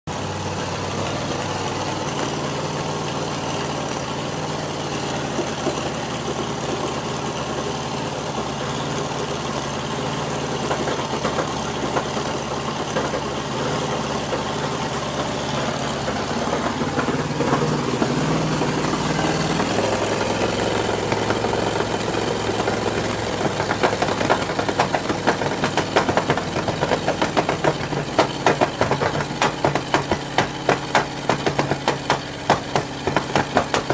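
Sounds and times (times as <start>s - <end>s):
car engine idling: 0.0s - 33.9s
engine popping: 0.1s - 33.9s.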